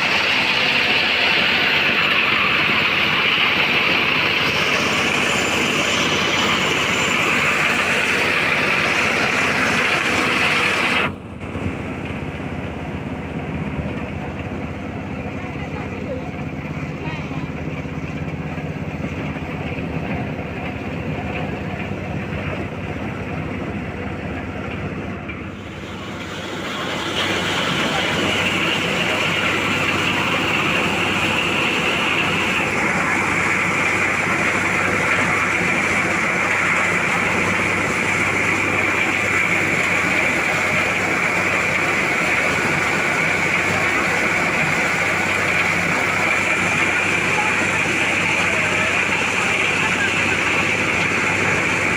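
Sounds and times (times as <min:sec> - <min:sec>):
corn sheller running: 0:00.0 - 0:51.9.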